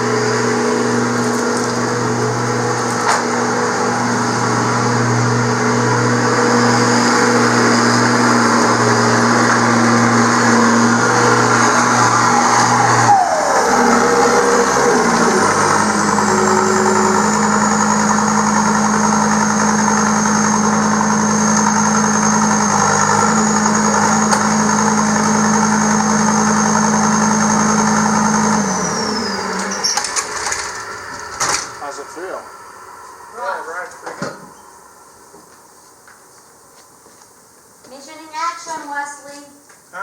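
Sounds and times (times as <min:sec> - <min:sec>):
diesel engine running with whine: 0:00.0 - 0:35.3.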